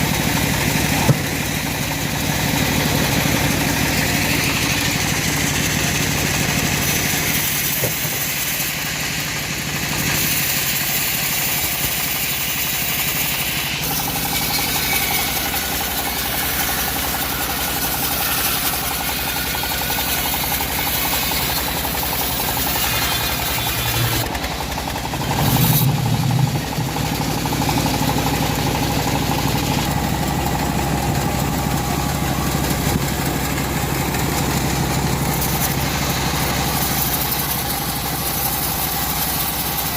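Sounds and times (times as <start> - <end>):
saw engine running: 0.0 - 39.9.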